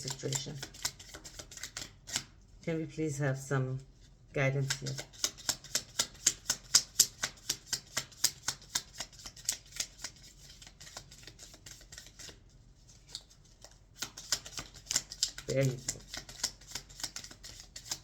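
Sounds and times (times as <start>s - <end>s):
cards being shuffled: 0.0s - 2.3s, 4.6s - 18.0s.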